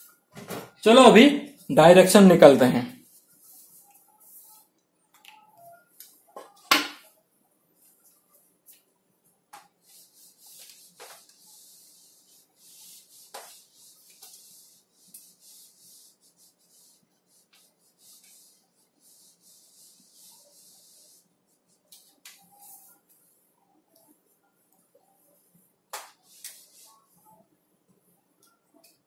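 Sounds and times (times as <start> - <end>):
cloth rubbing on whiteboard: 0.9 - 4.7, 7.8 - 28.2.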